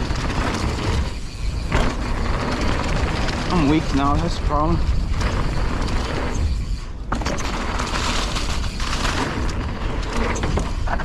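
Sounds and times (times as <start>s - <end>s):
mountain bike rattling on trail: 0.0s - 11.0s
wind buffeting microphone: 0.0s - 11.0s.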